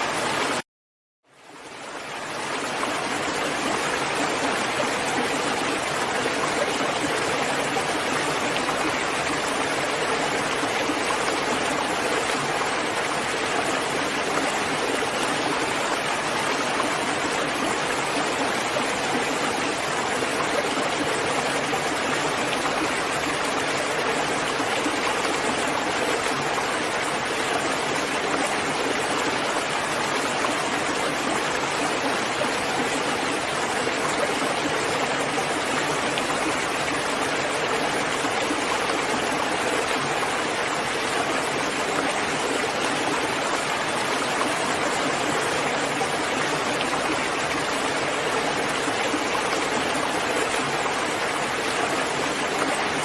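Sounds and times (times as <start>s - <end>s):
steady rain falling: 1.3s - 53.0s.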